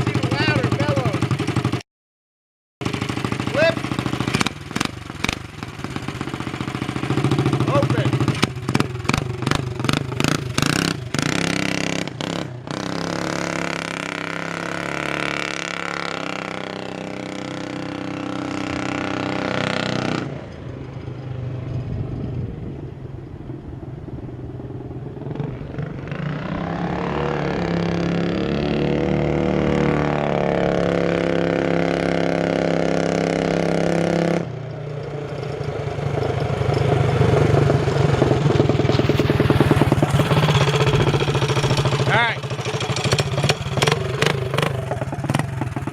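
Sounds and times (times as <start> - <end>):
minibike engine revving: 0.0 - 1.8, 2.8 - 45.9.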